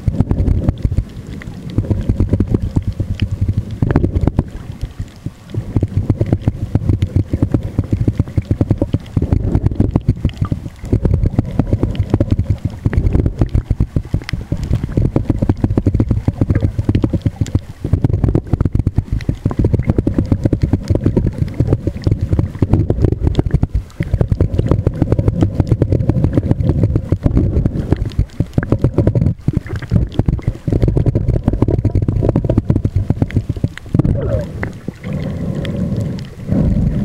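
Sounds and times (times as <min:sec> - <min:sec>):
muffled underwater rumble: 0:00.0 - 0:37.0
underwater crackling: 0:00.0 - 0:37.0.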